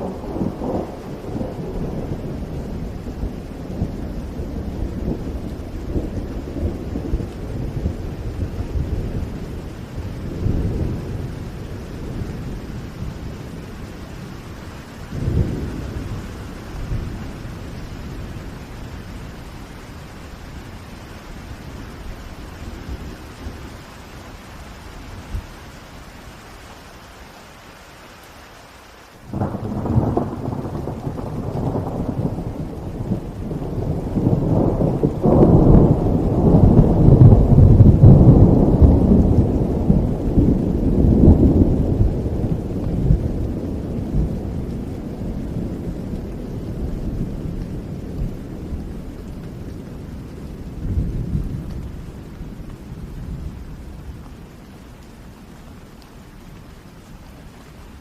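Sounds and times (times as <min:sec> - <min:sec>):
thunder rumbling: 0:00.0 - 0:26.5, 0:29.3 - 0:55.6
steady rain: 0:00.0 - 0:58.0.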